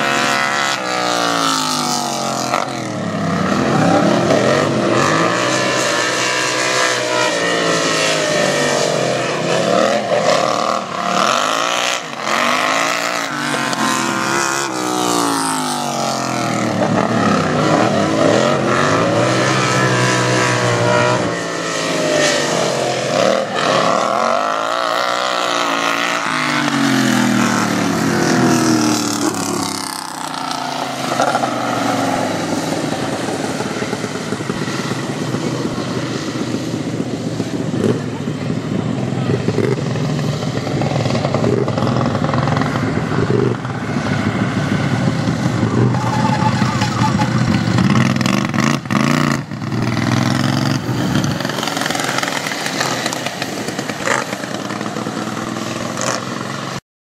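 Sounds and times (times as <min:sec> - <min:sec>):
small engines revving: 0:00.0 - 0:56.8.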